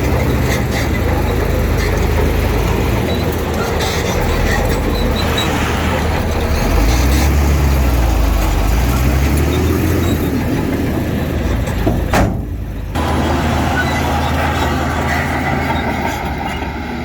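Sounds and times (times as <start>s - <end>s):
diesel machinery engine rumble: 0.0s - 17.0s.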